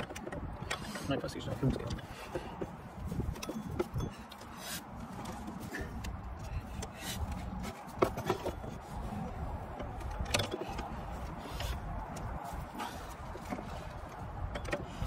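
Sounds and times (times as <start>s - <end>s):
steady low rumble: 0.0s - 15.0s
tools clicking and scraping: 0.0s - 15.0s.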